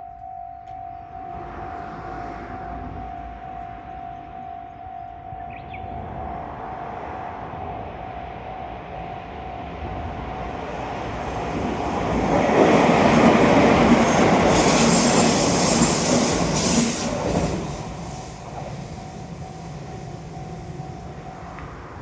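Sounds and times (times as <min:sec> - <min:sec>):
level crossing warning bell: 0:00.0 - 0:16.5, 0:17.9 - 0:22.0
train passing: 0:00.1 - 0:22.0.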